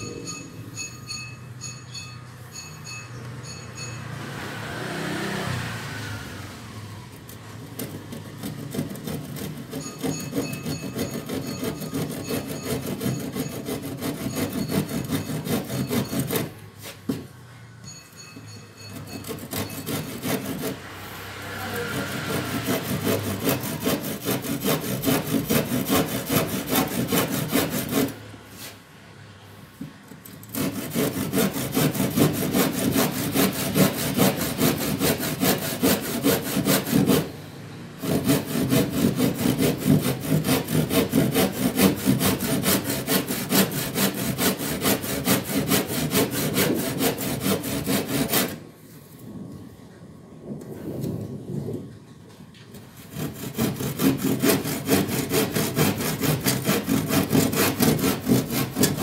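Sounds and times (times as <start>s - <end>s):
hand saw cutting wood: 4.2s - 17.3s, 18.8s - 28.8s, 29.9s - 48.7s, 52.7s - 59.0s.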